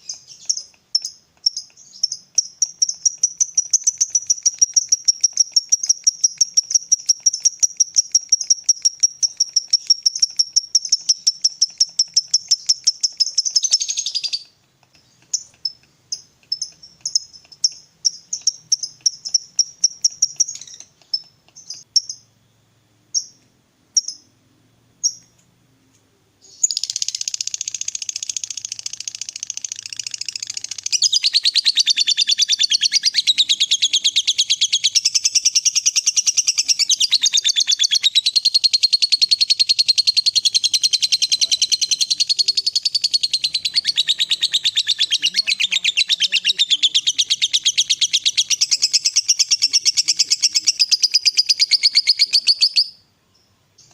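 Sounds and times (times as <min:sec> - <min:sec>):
lovebird chattering trill: 0:00.0 - 0:22.3, 0:26.4 - 0:53.0
dense chattering birdsong: 0:00.0 - 0:53.9.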